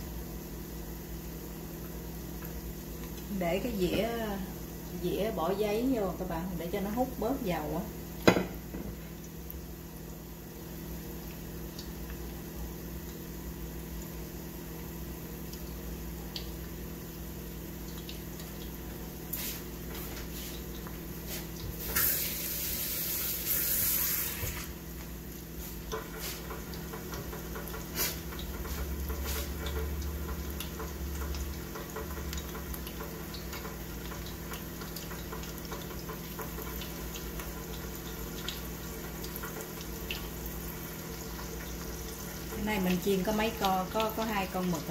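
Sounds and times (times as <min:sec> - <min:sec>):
squid deep-frying in oil: 0:00.0 - 0:44.9.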